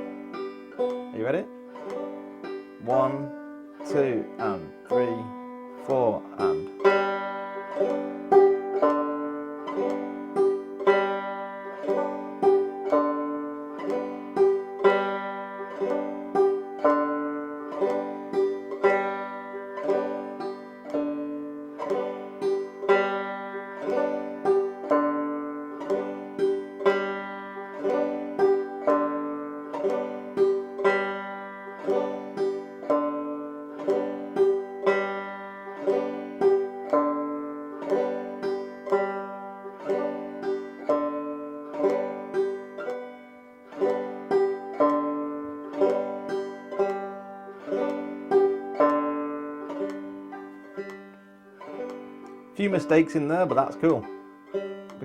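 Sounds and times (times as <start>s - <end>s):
banjo played clawhammer style: 0.0s - 55.0s.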